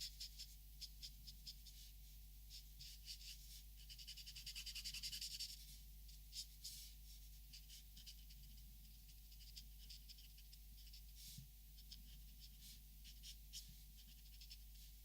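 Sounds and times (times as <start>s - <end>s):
pencil strokes on paper: 0.0s - 8.6s, 9.3s - 15.0s.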